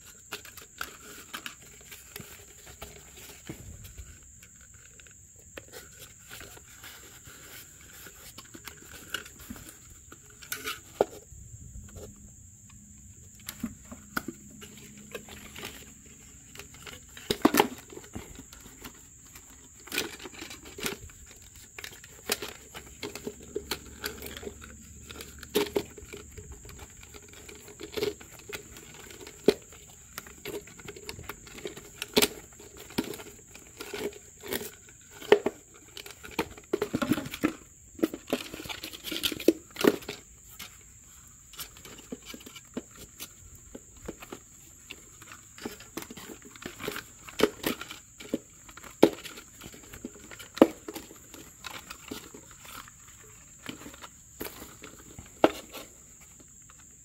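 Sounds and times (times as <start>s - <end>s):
scratching and crinkling: 0.0s - 57.0s.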